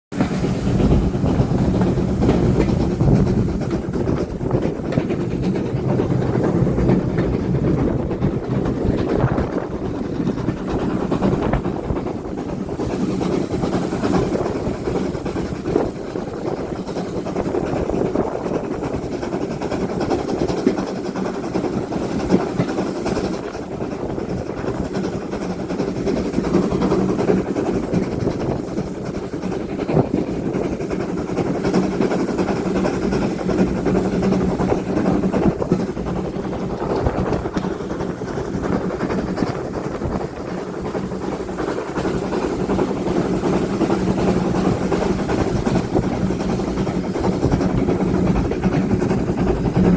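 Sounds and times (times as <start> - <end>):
steam train rumbling: 0.1 - 49.9.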